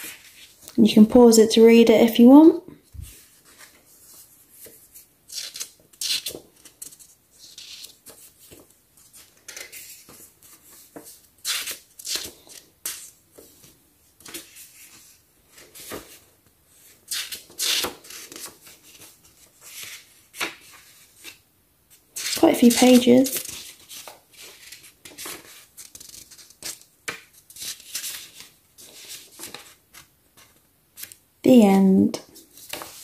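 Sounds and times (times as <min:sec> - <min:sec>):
book pages turning: 0:02.9 - 0:21.4, 0:22.2 - 0:33.0.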